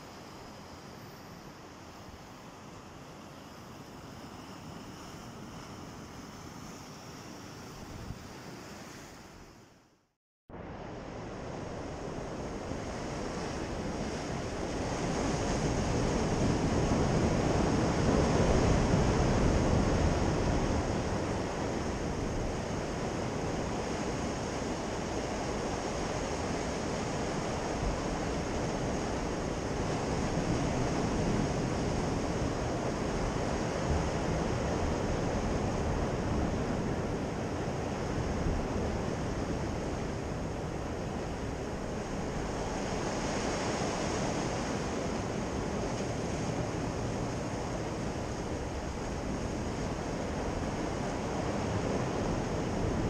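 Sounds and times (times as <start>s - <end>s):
wind: 0.0s - 53.0s.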